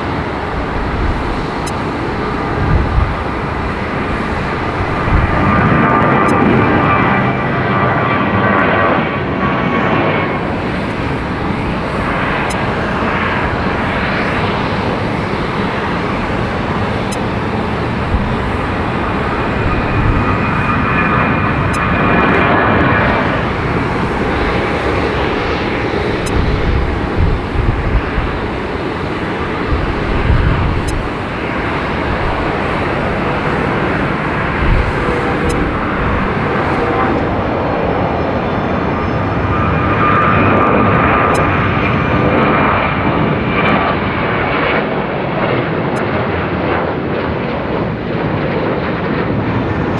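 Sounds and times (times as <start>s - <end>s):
high engine whine: 0.0s - 46.1s, 49.2s - 49.9s
jet engines roaring: 0.0s - 49.9s.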